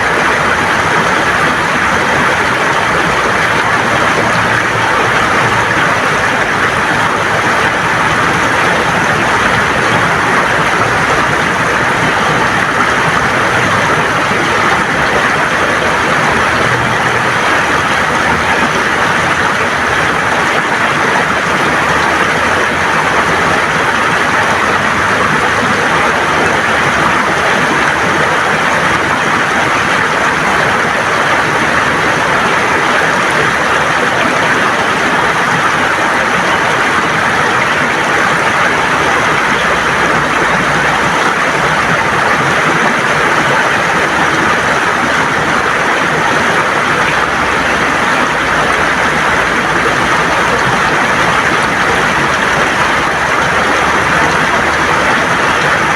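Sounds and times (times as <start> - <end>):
river water gurgling over stones: 0.0 - 55.9.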